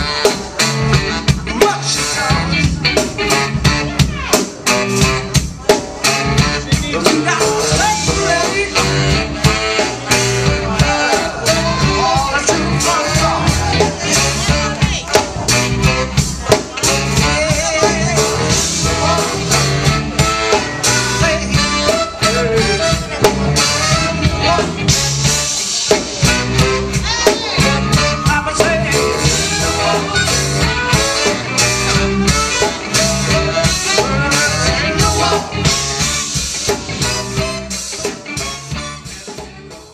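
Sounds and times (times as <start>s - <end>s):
drum kit beat: 0.0s - 39.9s
horn band playing upbeat tune: 0.0s - 39.9s.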